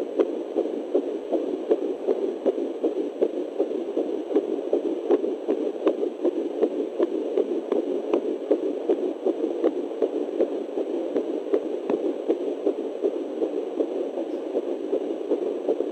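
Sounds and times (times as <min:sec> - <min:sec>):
static hiss: 0:00.0 - 0:15.9
whooshing fetal heartbeat: 0:00.0 - 0:15.9.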